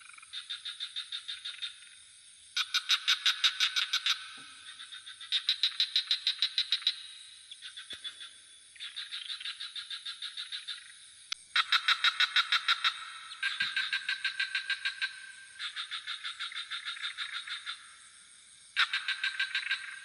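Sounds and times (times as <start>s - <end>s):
frogs trilling: 0.0s - 20.0s
high insect drone: 0.0s - 20.0s.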